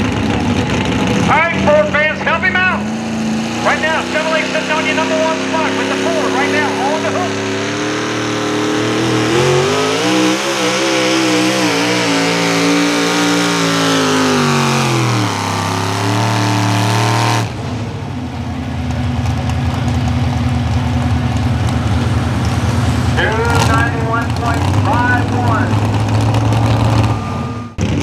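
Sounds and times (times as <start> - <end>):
truck engine running hard: 0.0 - 28.0.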